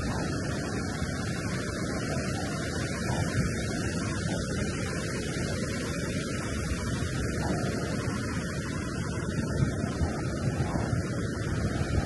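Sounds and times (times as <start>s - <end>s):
ocean surf on sandy beach: 0.0s - 12.0s.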